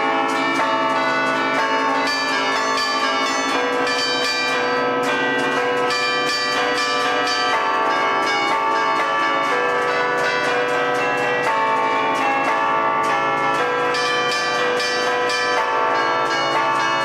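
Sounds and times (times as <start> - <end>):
tower bells ringing melody: 0.0 - 17.0.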